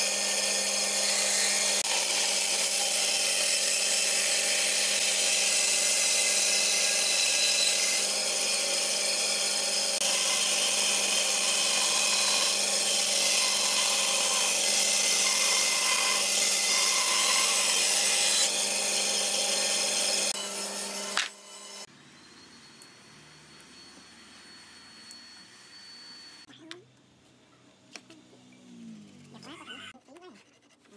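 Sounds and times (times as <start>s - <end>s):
band saw motor hum: 0.0s - 26.5s.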